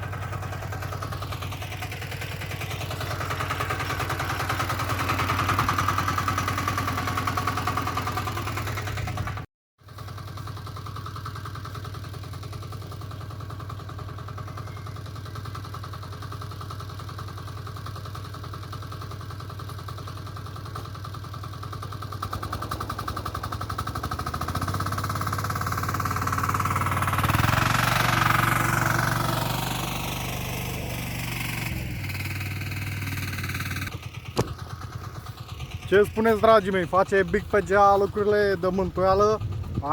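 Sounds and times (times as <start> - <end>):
walk-behind tractor diesel engine: 0.0 - 39.9.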